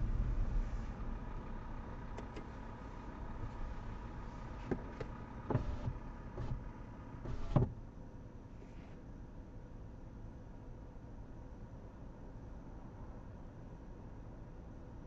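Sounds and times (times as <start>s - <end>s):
car idle hum: 0.0s - 15.0s.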